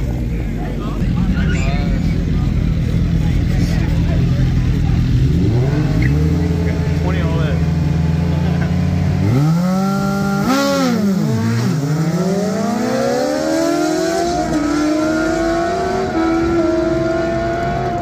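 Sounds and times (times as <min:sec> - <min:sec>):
motorcycle engine revving: 0:01.0 - 0:18.0.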